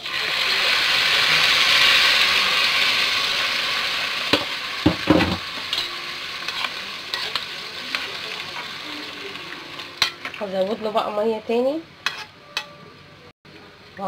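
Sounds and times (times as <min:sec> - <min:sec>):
water sizzling in a pot: 0:00.0 - 0:12.7.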